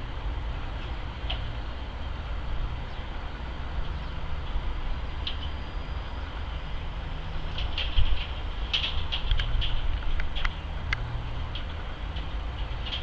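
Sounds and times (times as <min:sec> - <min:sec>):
distant engine rumble: 0:00.0 - 0:13.0.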